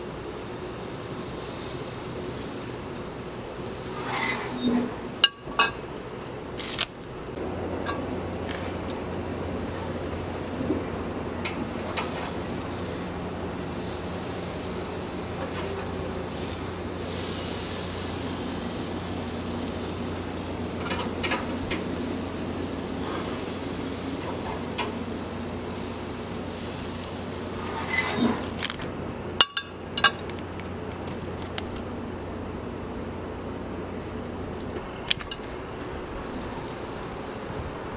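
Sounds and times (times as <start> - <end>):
chicken sizzling on grill: 0.0 - 28.8, 29.4 - 37.9.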